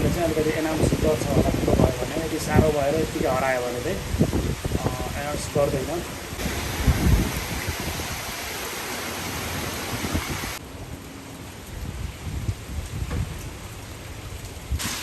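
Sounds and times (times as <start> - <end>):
wind buffeting microphone: 0.0 - 11.0, 11.6 - 15.0
rain hissing: 0.0 - 15.0.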